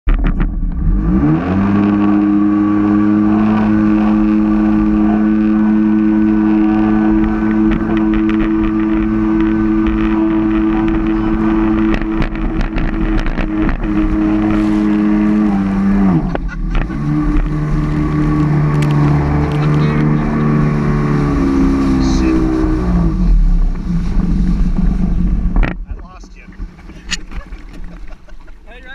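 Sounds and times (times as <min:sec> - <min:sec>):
jet ski engine revving: 0:00.1 - 0:28.9.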